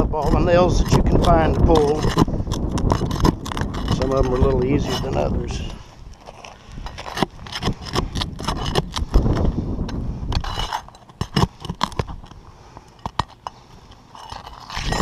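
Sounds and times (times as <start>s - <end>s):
pry bar scraping on shingles: 0.0s - 15.0s.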